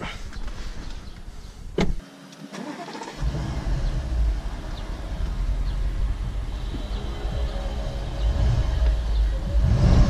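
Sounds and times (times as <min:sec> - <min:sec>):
car engine starting and rumbling: 0:01.7 - 0:10.0.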